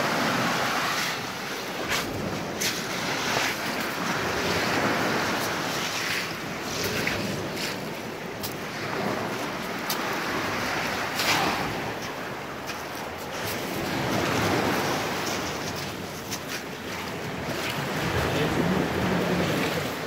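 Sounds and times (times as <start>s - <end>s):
surf on pebble beach: 0.0s - 20.0s
wind on microphone: 0.0s - 20.0s.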